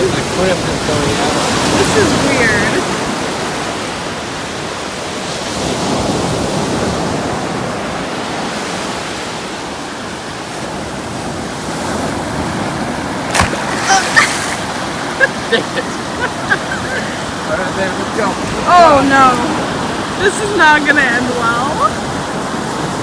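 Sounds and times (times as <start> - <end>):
ocean surf rushing: 0.0 - 23.0
running shallow water: 0.0 - 23.0.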